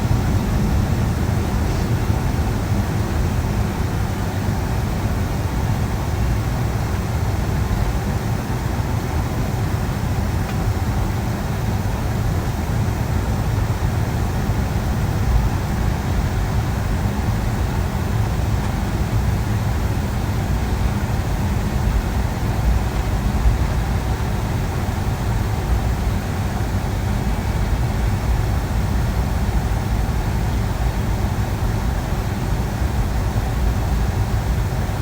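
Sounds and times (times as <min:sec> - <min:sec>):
airplane cabin drone: 0:00.0 - 0:35.0.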